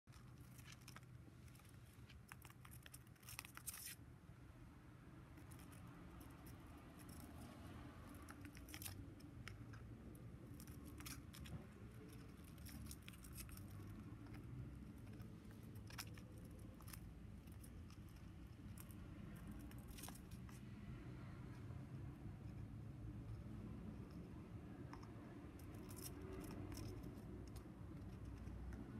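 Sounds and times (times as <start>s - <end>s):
low room hum: 0.1s - 28.9s.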